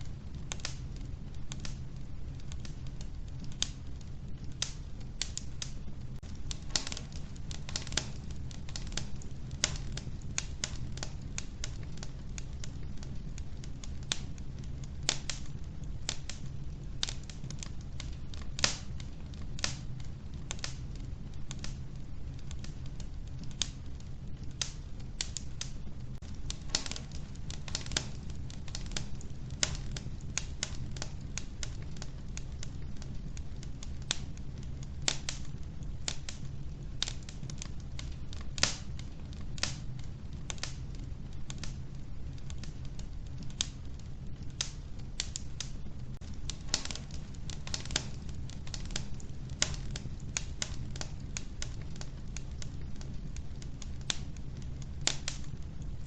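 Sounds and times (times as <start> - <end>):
logs crackling and popping: 0.0 - 56.0
low rumble of fire: 0.0 - 56.0.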